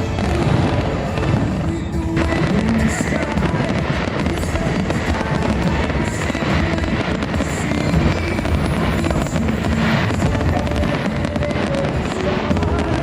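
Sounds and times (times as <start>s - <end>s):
fireworks bursting and crackling: 0.0s - 13.0s
loud show music: 0.0s - 13.0s.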